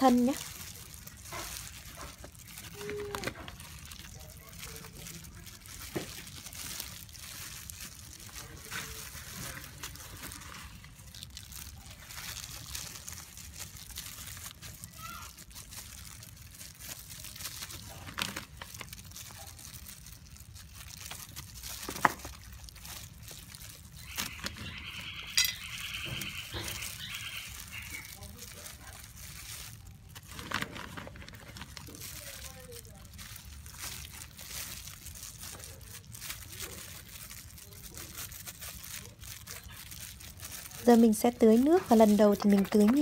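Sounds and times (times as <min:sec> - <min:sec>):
plastic gloves crinkling: 0:00.0 - 0:43.0
potting soil rustling: 0:00.0 - 0:43.0.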